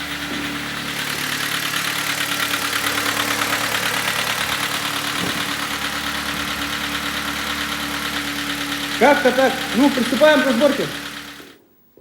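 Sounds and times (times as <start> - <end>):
knocking car engine idling: 0.0 - 11.6.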